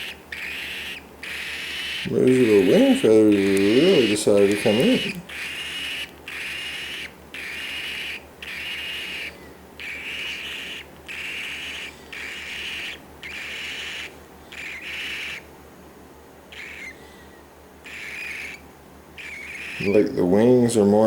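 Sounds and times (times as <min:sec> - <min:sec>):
baby bird raspy hissing calls: 0:00.0 - 0:15.5, 0:16.5 - 0:20.0.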